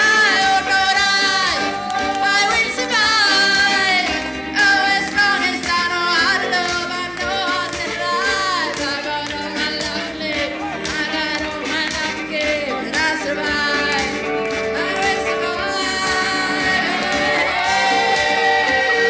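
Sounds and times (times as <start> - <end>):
electric guitar: 0.0 - 19.0
women singing into microphones: 0.0 - 19.0.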